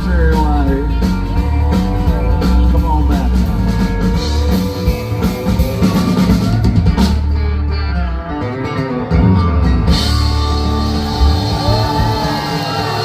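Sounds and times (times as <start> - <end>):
live country band playing: 0.0 - 13.0.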